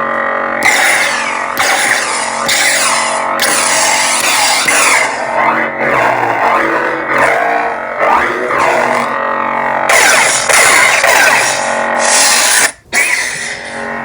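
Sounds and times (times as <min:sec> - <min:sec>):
lightsaber humming and swinging: 0:00.0 - 0:14.0.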